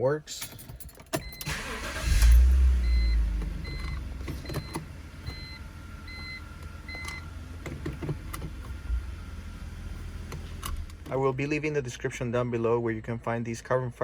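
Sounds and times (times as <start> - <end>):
car engine starting and idling: 0.4 - 12.0.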